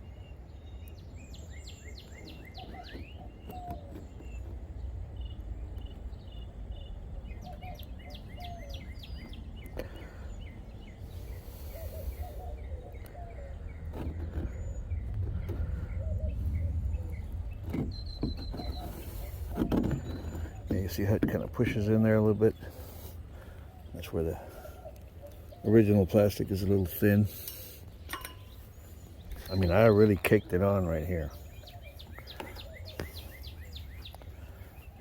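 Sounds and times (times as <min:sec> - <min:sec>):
birds chirping: 0:00.0 - 0:35.0
steady low rumble: 0:03.2 - 0:35.0.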